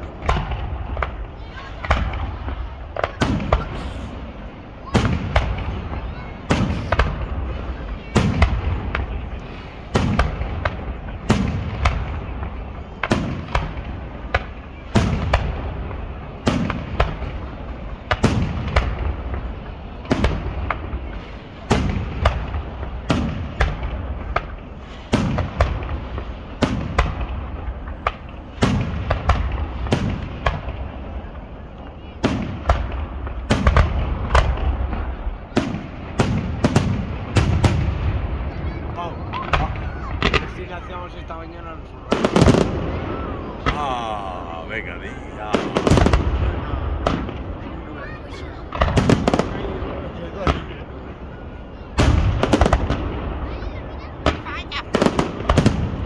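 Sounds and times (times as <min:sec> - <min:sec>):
fireworks bangs with echo: 0:00.0 - 0:56.0.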